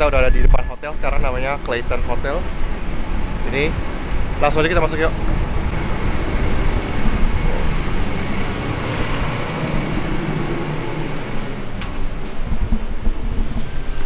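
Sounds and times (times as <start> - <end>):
low rumble: 0.0 - 14.0
traffic going by: 0.9 - 14.0.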